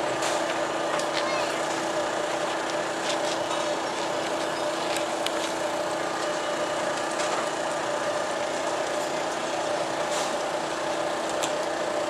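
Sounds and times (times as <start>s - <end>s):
noisy background: 0.0s - 12.0s.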